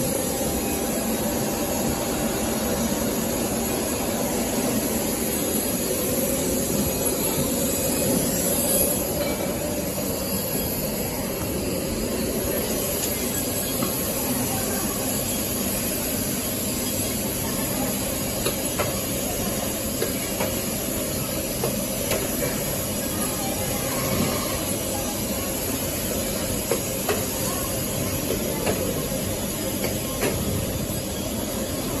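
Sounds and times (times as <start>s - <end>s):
factory machinery hum and hiss: 0.0s - 32.0s.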